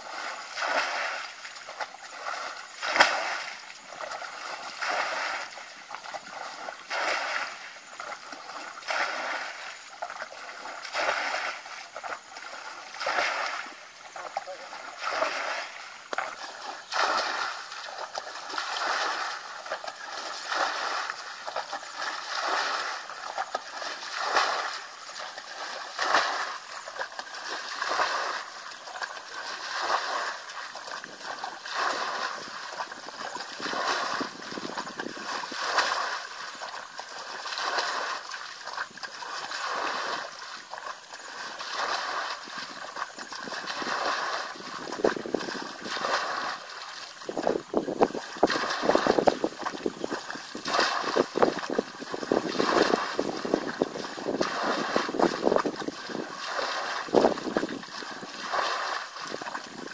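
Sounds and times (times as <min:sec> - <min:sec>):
water splashing from bucket: 0:00.0 - 0:59.9.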